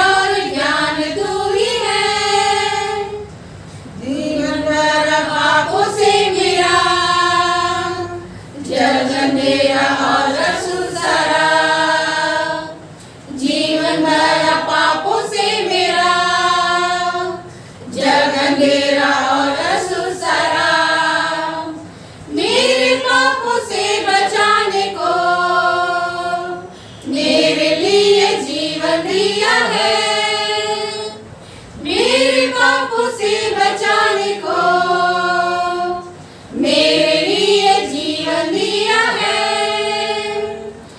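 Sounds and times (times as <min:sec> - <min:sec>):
women singing a hymn: 0:00.0 - 0:40.9.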